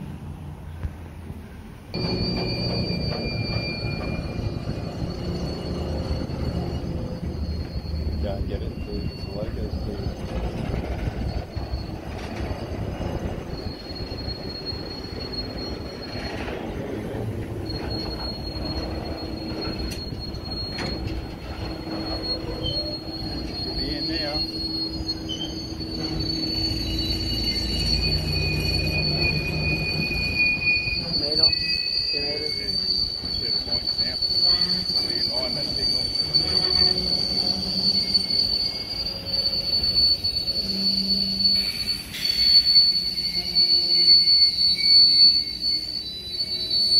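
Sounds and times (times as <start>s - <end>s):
train rumbling on rails: 0.0s - 46.9s
train wheels squealing: 0.6s - 46.9s.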